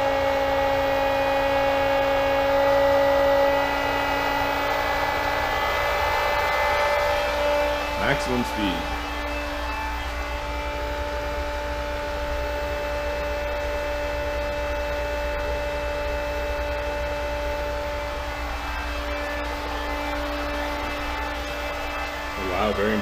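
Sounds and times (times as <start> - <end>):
pool pump humming with whine: 0.0 - 23.0.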